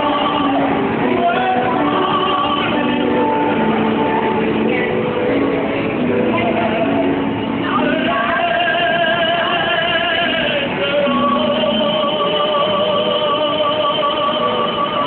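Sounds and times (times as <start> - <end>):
musical accompaniment: 0.0 - 15.0
operatic singing with vibrato: 0.0 - 15.0.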